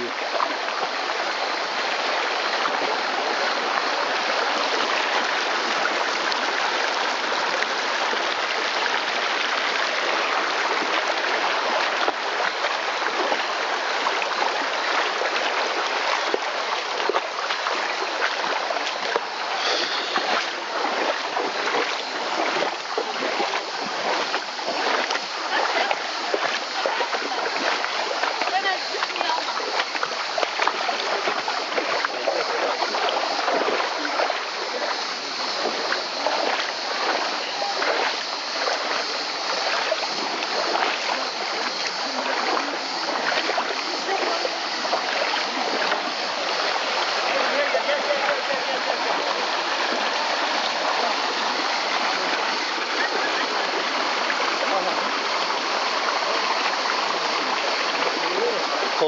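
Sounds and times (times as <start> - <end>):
splashing footsteps in water: 0.0 - 59.0
stream rushing over stones: 0.0 - 59.0.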